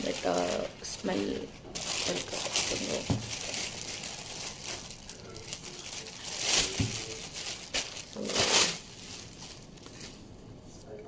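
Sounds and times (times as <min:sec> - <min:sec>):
plastic cover rustling: 0:00.0 - 0:10.3.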